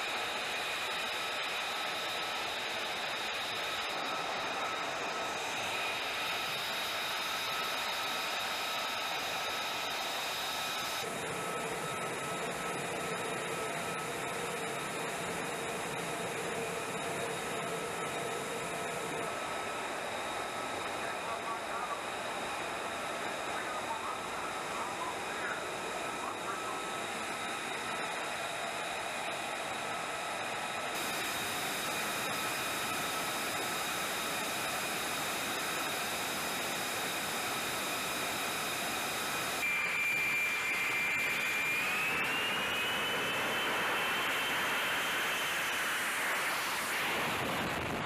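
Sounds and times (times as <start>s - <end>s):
jet engine whine and roar: 0.0s - 48.0s.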